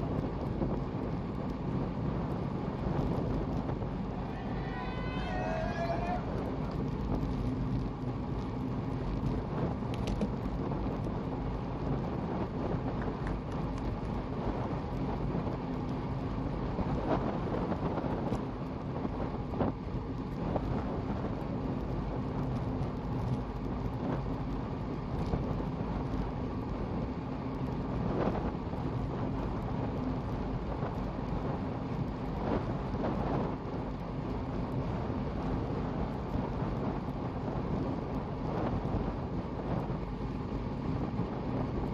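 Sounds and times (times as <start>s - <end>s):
road rumble: 0.0s - 41.9s
wind buffeting microphone: 0.0s - 41.9s.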